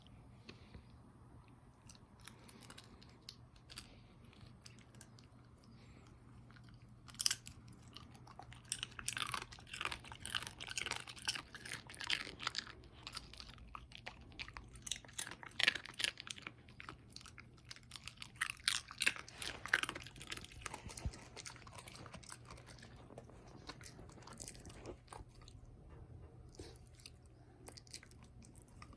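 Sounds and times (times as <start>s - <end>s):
dog crunching crusty bread: 1.9s - 25.6s.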